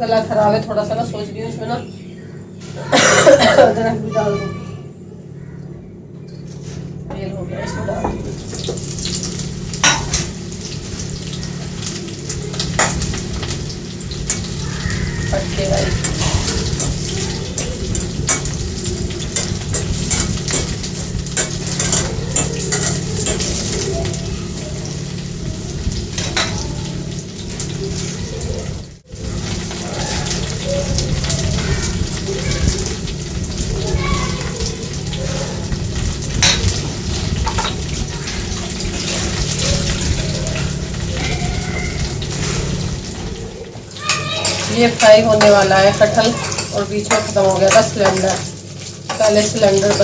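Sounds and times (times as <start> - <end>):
food sizzling in hot oil: 8.2 - 50.0.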